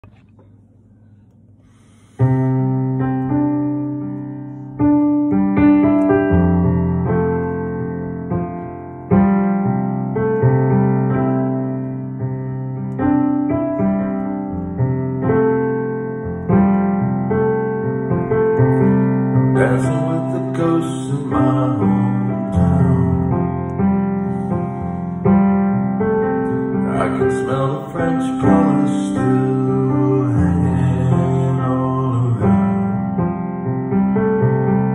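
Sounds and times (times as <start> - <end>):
slow piano chords: 0.0 - 34.9.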